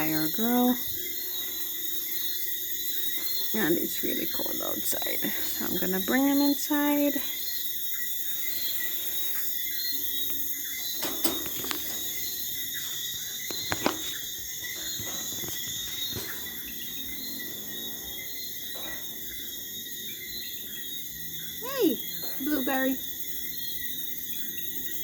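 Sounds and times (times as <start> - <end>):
crickets and insects chirring: 0.0 - 25.0.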